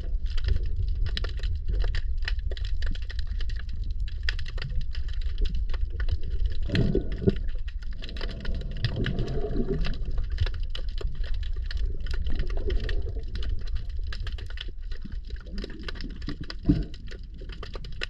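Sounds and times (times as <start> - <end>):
bubbling gurgles: 0.0 - 18.0
low underwater rumble: 0.0 - 18.0
underwater crackle of clicks: 0.0 - 18.0.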